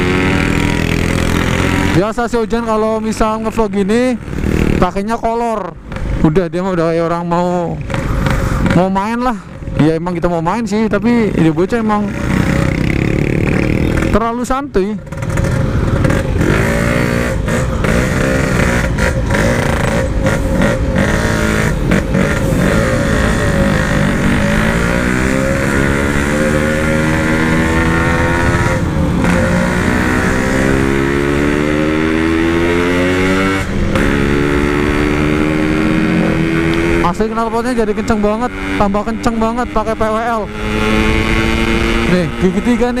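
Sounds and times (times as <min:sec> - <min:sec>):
motorcycle accelerating: 0:00.0 - 0:43.0.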